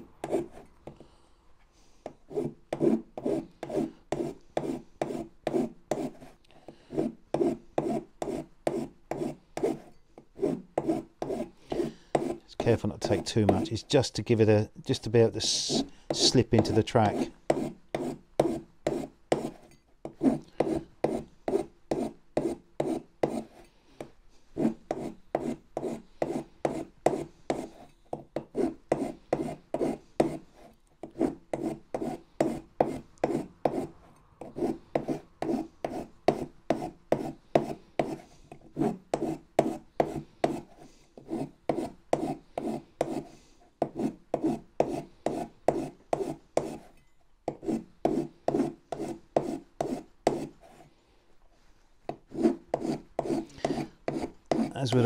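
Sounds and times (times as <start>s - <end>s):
hand file filing metal: 0.0s - 0.7s, 2.1s - 14.0s, 15.4s - 23.7s, 24.6s - 50.9s, 52.1s - 55.0s.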